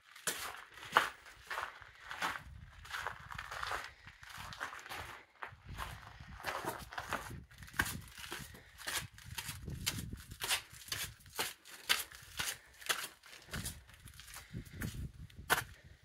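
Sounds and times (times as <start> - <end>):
footsteps on stone steps: 0.1 - 15.8.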